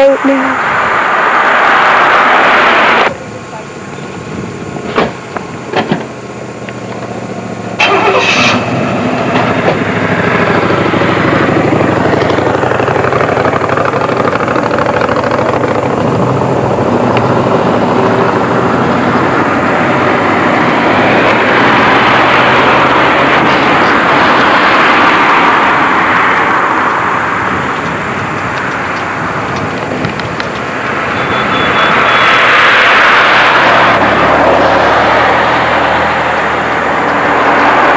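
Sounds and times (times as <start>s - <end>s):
road noise rush: 0.0s - 37.9s
vehicle engine hum: 0.0s - 37.9s.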